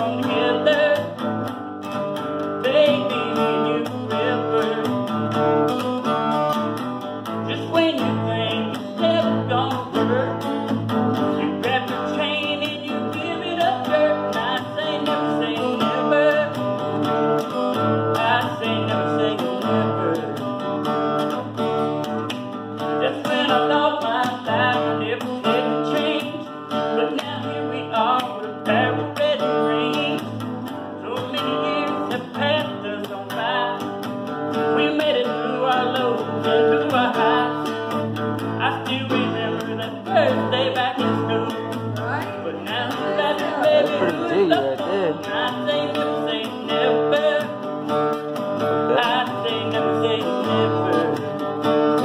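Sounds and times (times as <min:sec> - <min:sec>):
acoustic guitar strumming chords: 0:00.0 - 0:52.0
picked guitar lead line: 0:00.0 - 0:52.0.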